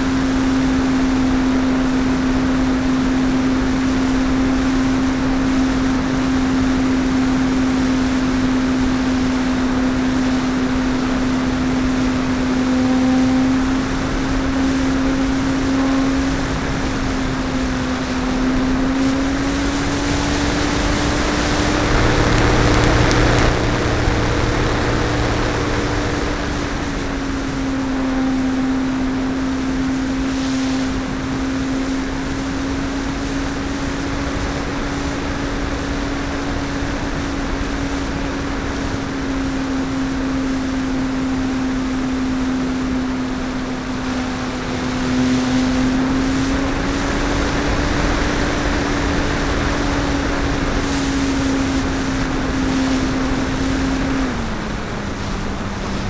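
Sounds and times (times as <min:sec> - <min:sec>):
airflow rushing: 0:00.0 - 0:56.0
model plane motor droning: 0:00.0 - 0:56.0.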